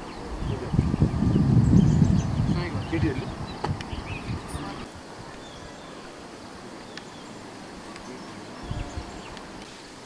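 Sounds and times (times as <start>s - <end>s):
insects humming: 0.0s - 10.0s.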